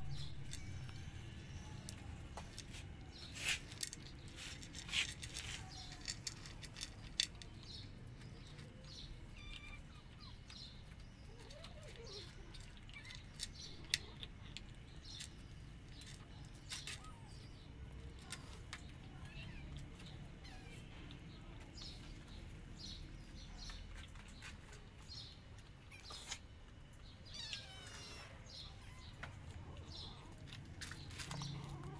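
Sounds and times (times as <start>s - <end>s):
cats crunching dry kibble: 0.0s - 31.9s.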